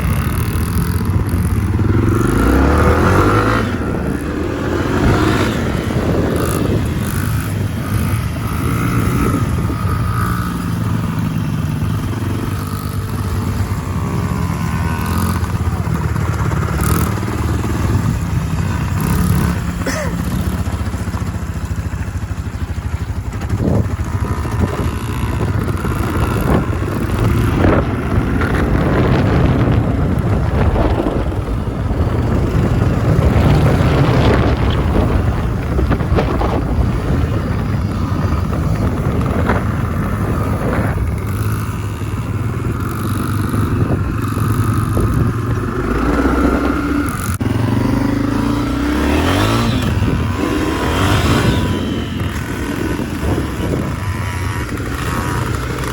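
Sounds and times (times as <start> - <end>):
small dirt bike engine: 0.0 - 55.9.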